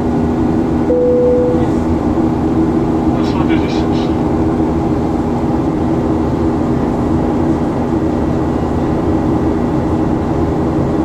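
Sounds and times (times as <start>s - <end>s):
jet engine drone in cabin: 0.0s - 11.0s.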